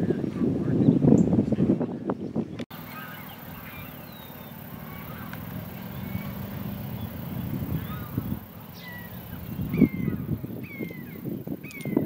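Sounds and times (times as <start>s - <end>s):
birds chirping and whistling: 2.2s - 12.0s.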